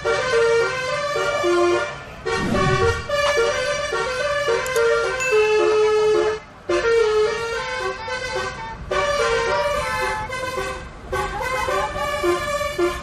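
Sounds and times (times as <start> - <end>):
bus air horn playing a tune: 0.0 - 2.4, 3.8 - 13.0.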